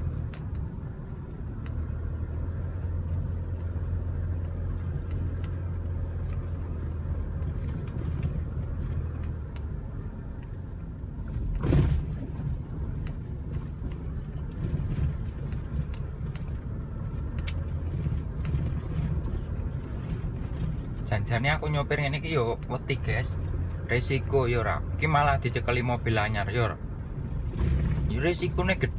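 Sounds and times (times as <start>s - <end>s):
truck engine and road noise: 0.0s - 28.9s.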